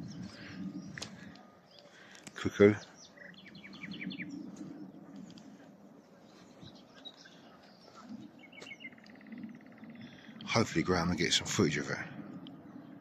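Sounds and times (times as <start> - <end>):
nightingale singing: 0.0 - 10.6.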